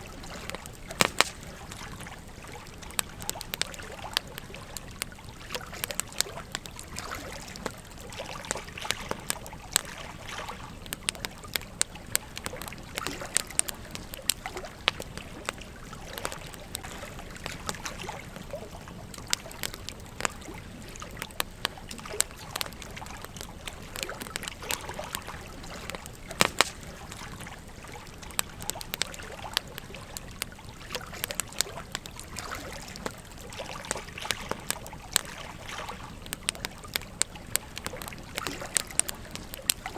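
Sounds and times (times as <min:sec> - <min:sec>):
campfire crackling and popping: 0:00.0 - 0:39.9
stream trickling: 0:00.0 - 0:39.9.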